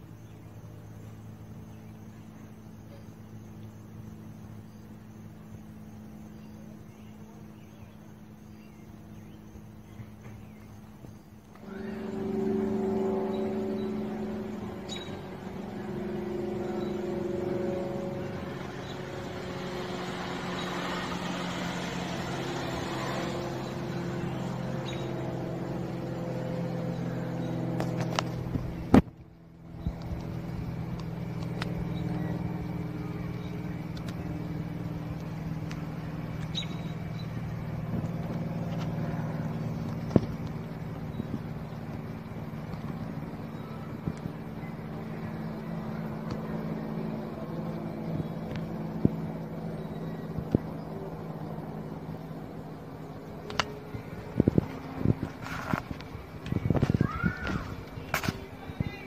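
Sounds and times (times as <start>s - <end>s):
propeller plane droning overhead: 0.0s - 59.0s.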